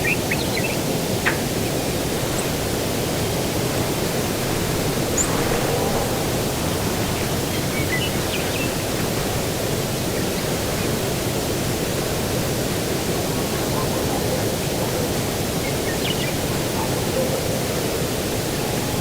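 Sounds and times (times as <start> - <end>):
rushing outdoor ambience: 0.0 - 19.0.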